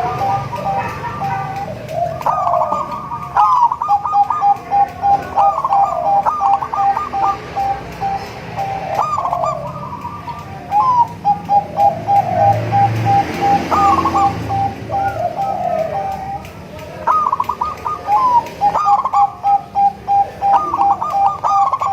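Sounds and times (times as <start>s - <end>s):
dove cooing: 0.0s - 21.9s.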